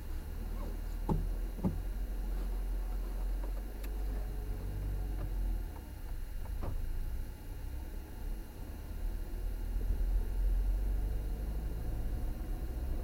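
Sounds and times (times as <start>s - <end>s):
vehicle rumble from inside cabin: 0.0s - 13.0s.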